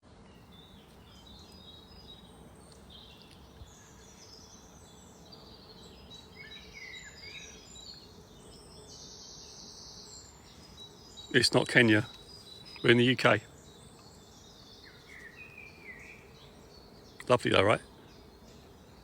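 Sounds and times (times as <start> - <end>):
birds chirping and singing: 0.2 - 19.0.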